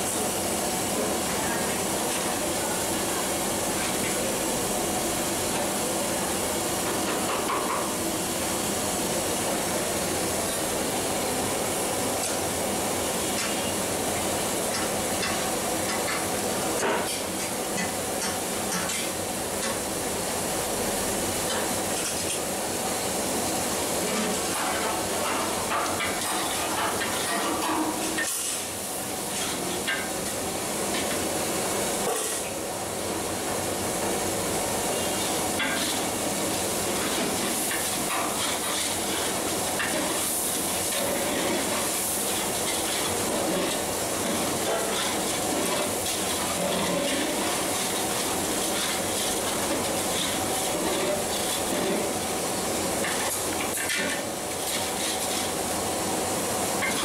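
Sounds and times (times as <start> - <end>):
food sizzling in a pot: 0.0 - 57.0.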